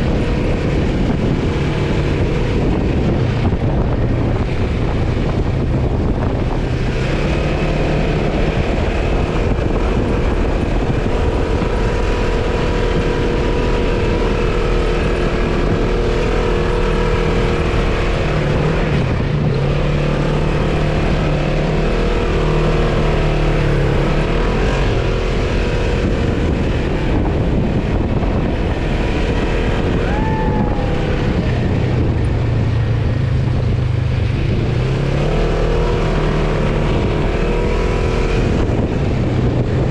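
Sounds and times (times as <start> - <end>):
off-road vehicle engine running: 0.0 - 39.9
wind rumble on microphone: 0.0 - 39.9.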